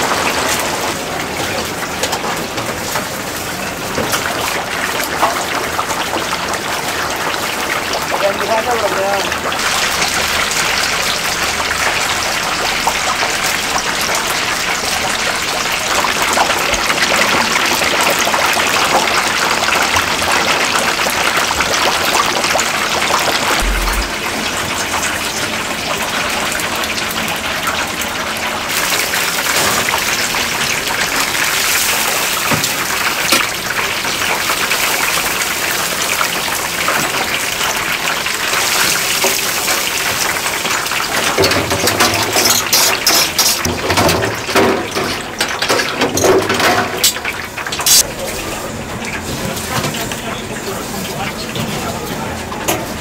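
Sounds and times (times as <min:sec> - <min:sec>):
tap water running and splashing: 0:00.0 - 0:23.7, 0:26.4 - 0:52.0.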